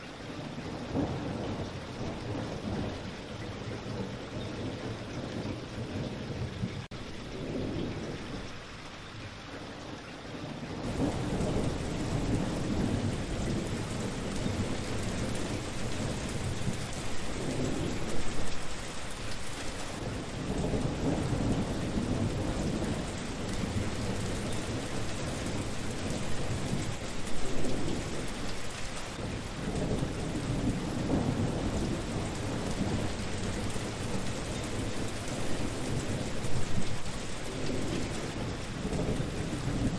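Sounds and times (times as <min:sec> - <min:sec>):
steady rain falling: 0:00.0 - 0:39.9
thunder rumbling: 0:00.8 - 0:08.7, 0:10.8 - 0:28.6, 0:29.2 - 0:39.9.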